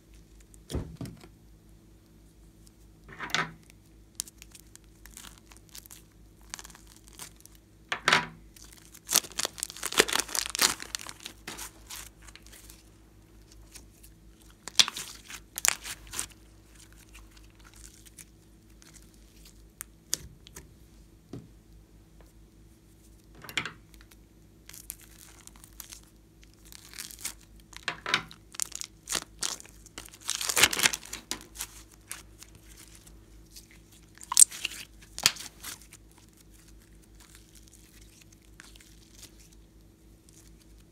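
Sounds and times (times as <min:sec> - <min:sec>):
plastic piping bag crinkling: 0:03.6 - 0:07.6, 0:08.4 - 0:20.6, 0:23.8 - 0:40.9
sticky slime squishing: 0:03.6 - 0:07.6, 0:08.5 - 0:20.6, 0:23.9 - 0:40.9.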